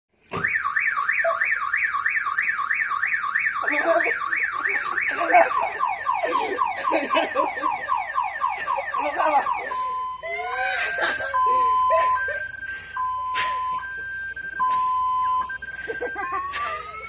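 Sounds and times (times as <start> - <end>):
car alarm falling chirps: 0.2 - 10.4, 11.0 - 17.0
car alarm siren warbling: 0.3 - 17.0.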